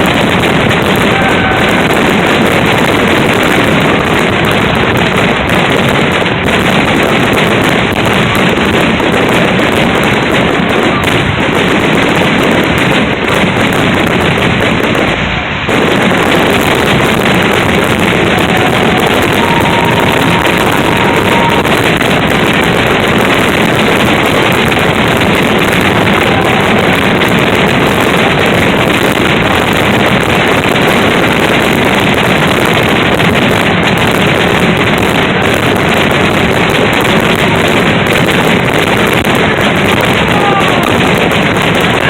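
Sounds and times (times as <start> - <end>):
fireworks barrage: 0.0 - 42.0.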